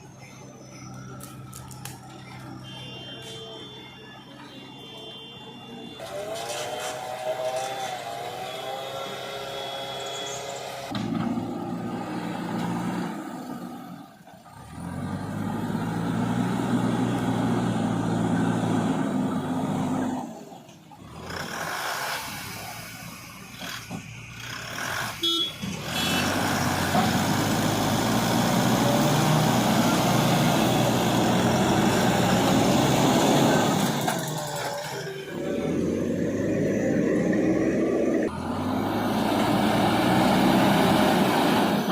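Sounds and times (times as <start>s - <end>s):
heavy diesel engines working: 0.0s - 41.9s.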